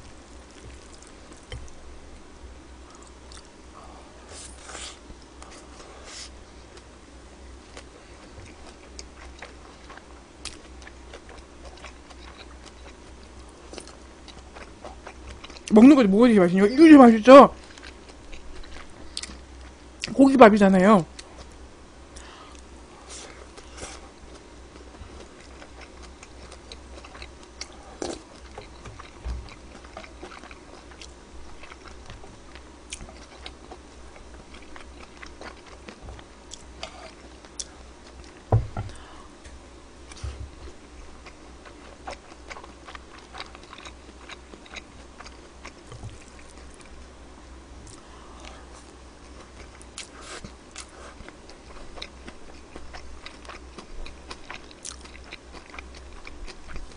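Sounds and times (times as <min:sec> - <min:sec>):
person chewing: 0:00.3 - 0:01.8, 0:02.8 - 0:03.6, 0:07.7 - 0:15.8, 0:17.6 - 0:20.2, 0:21.1 - 0:47.0, 0:47.8 - 0:56.9.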